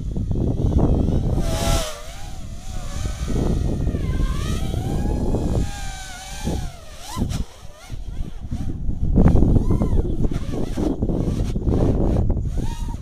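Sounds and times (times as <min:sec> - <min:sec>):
quadcopter motors whining: 0:00.0 - 0:13.0
wind on microphone: 0:00.0 - 0:13.0.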